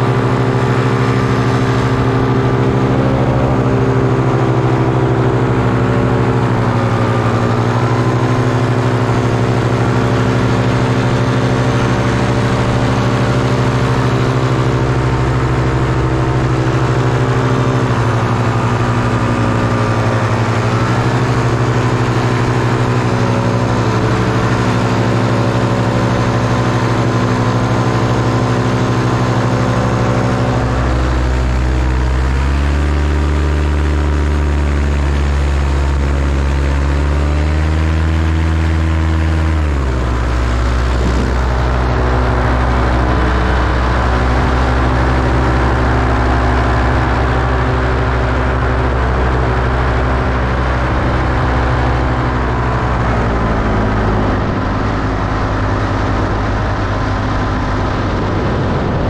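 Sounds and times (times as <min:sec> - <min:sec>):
paramotor engine running: 0:00.0 - 0:59.0.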